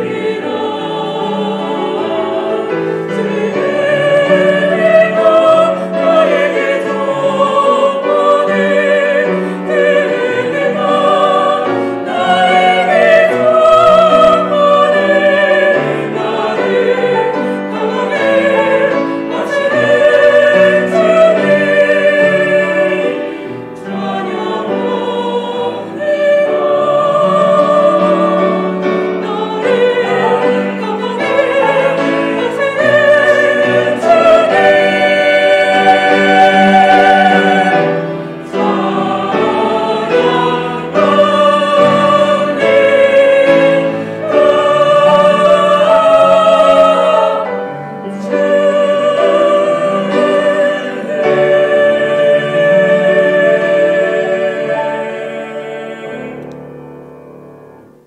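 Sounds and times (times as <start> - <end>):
choir singing a hymn: 0.0 - 58.0
piano accompaniment: 0.0 - 58.0.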